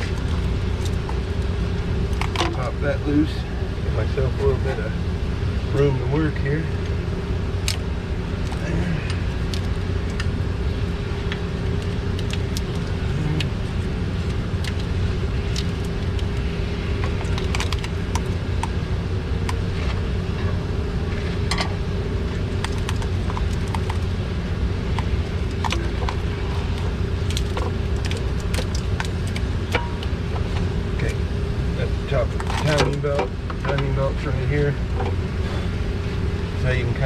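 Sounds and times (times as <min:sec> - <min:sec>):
mechanical hum: 0:00.0 - 0:37.0.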